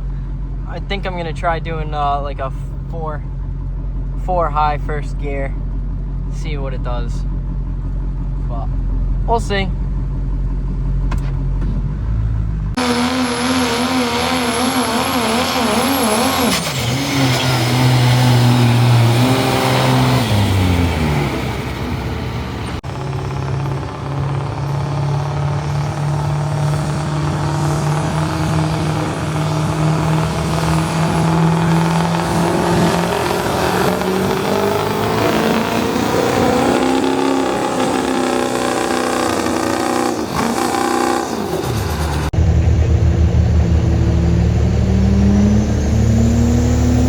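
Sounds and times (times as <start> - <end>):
diesel truck engine under load: 0.0 - 47.0.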